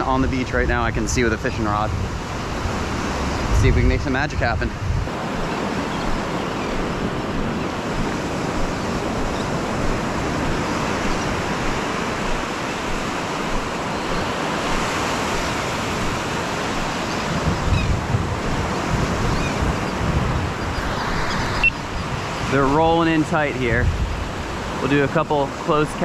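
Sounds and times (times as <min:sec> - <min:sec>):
ocean surf washing up beach: 0:00.0 - 0:26.0
wind rumbling on microphone: 0:00.0 - 0:26.0.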